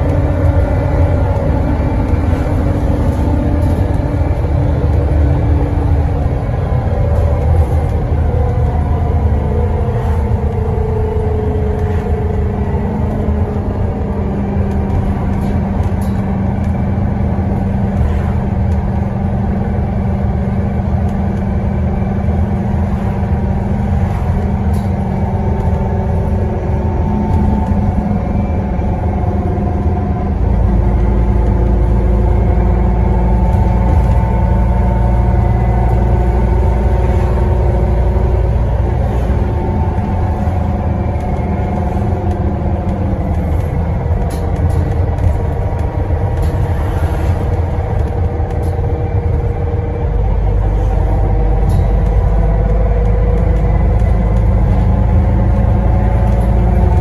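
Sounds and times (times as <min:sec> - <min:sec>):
bus engine rumbling: 0:00.0 - 0:57.0
differential whine: 0:00.0 - 0:57.0.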